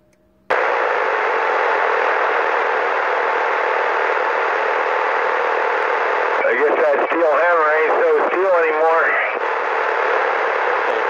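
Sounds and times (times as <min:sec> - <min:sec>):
radio static rush: 0:00.5 - 0:11.0.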